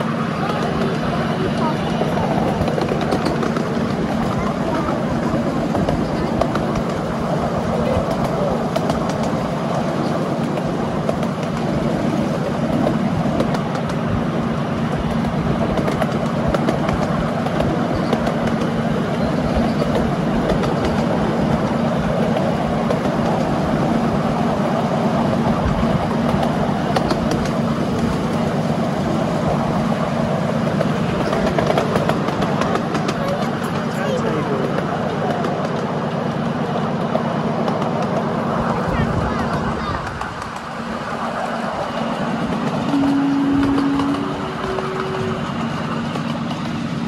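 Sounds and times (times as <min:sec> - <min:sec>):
miniature train rumbling: 0:00.0 - 0:47.0.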